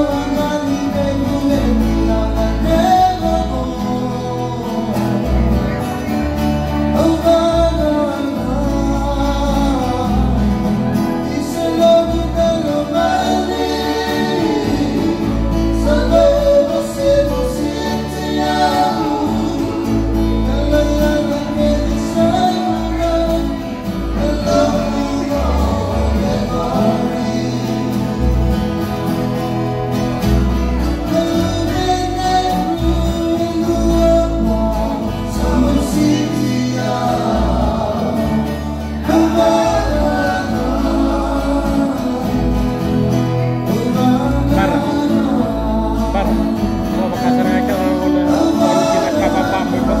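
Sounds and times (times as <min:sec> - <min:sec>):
men singing together: 0:00.0 - 0:05.4, 0:07.0 - 0:29.0, 0:30.8 - 0:50.0
strummed guitar and ukulele: 0:00.0 - 0:50.0.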